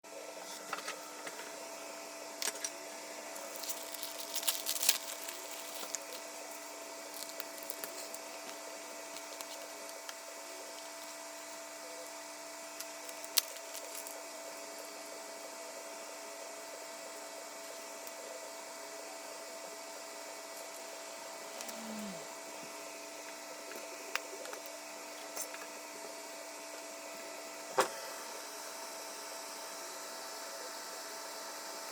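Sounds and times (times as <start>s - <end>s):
machine hum with faint whine: 0.1s - 31.9s.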